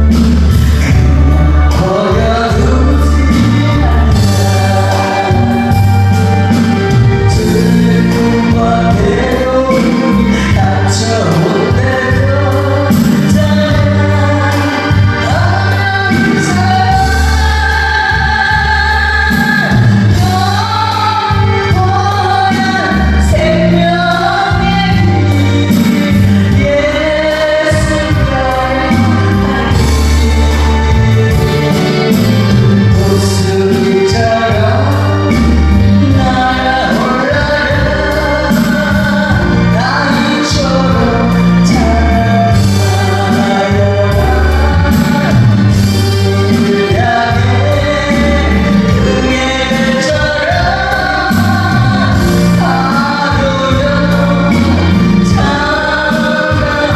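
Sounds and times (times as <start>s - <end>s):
instrumental accompaniment: 0.0s - 56.9s
person singing gospel song: 0.0s - 56.9s.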